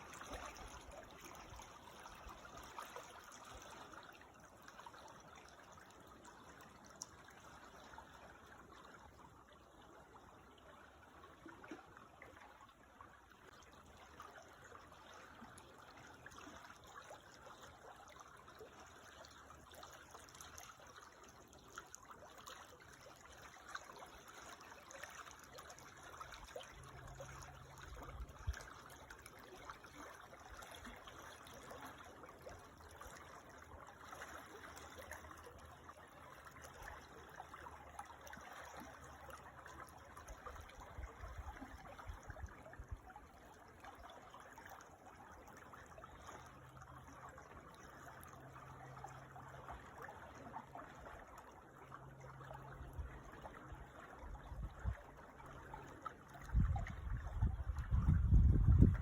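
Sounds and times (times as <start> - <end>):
creek trickling and babbling: 0.0 - 59.0.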